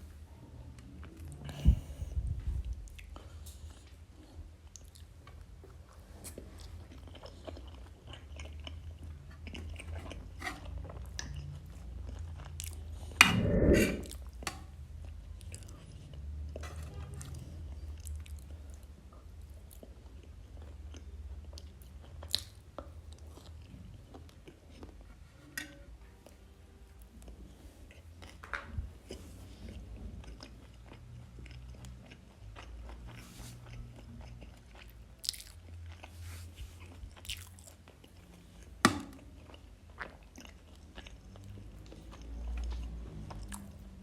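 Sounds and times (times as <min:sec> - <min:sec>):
chewing and eating: 0:00.3 - 0:44.0.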